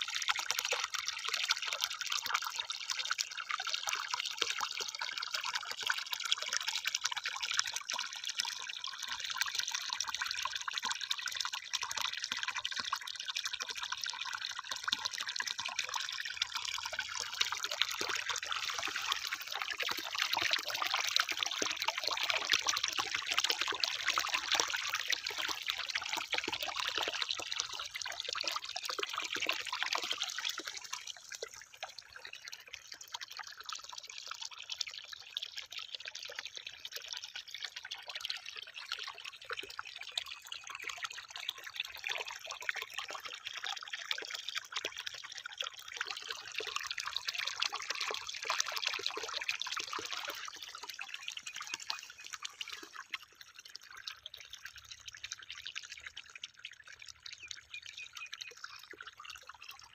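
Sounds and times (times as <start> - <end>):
water trickling into standing water: 0.0 - 59.9.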